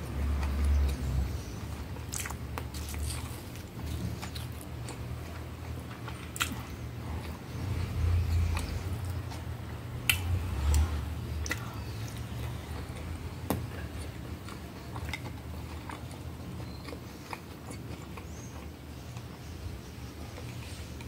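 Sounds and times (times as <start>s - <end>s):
person chewing soft food: 0.0s - 21.0s.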